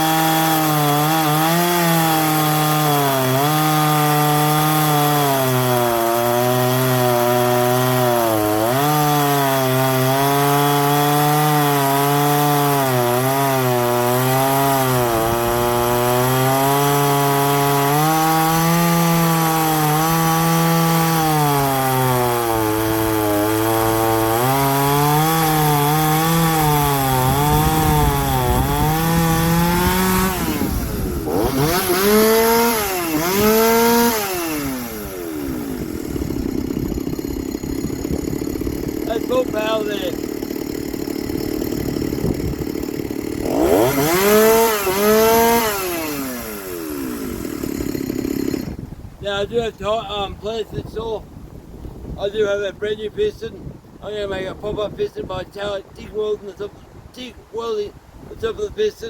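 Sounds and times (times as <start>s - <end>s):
chainsaw revving: 0.0s - 48.8s
chainsaw cutting wood: 0.0s - 49.5s.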